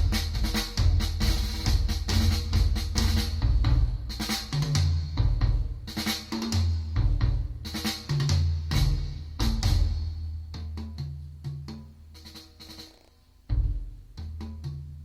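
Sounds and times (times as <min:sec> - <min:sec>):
drum kit beating: 0:00.0 - 0:15.0.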